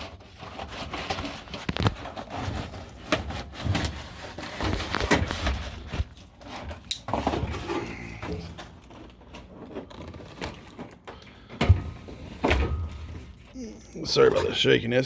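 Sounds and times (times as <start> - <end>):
items being handled: 0.0 - 14.8.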